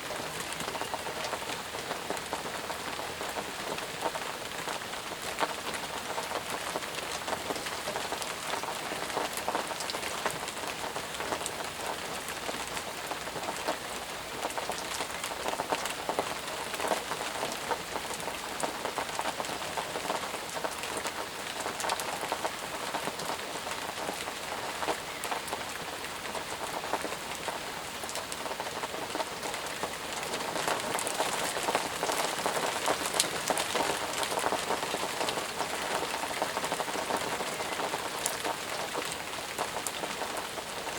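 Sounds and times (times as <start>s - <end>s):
intense steady rain: 0.0s - 40.9s.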